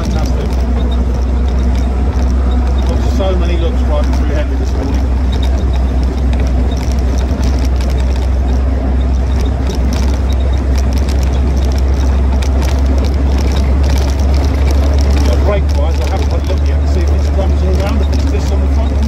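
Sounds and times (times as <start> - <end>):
jeep engine running: 0.0 - 19.0
vehicle rattles and clicks: 0.0 - 19.0
wind rumble on microphone: 0.0 - 19.0.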